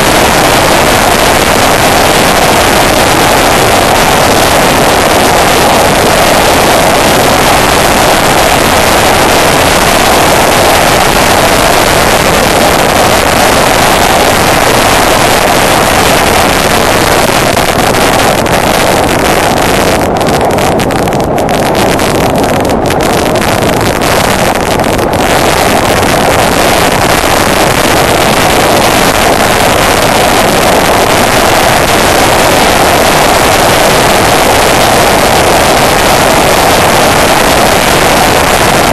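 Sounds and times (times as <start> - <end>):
motorcycle engine: 0.0 - 38.9
wind rushing past microphone: 0.0 - 38.9.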